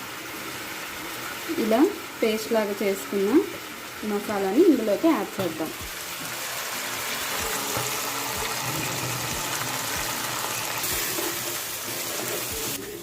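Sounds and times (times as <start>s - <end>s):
paste sizzling in a pan: 0.0s - 13.0s.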